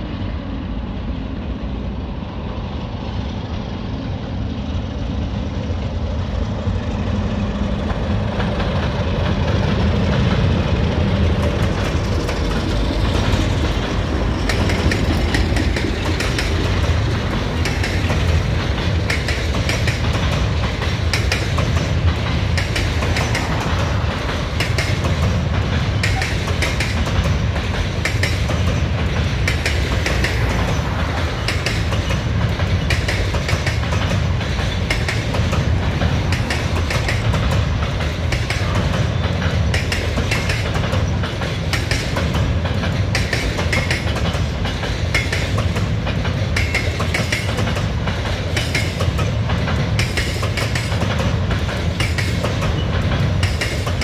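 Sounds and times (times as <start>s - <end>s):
freight train rumbling past: 0.0s - 54.0s
wheels clicking over rail joints: 7.8s - 54.0s.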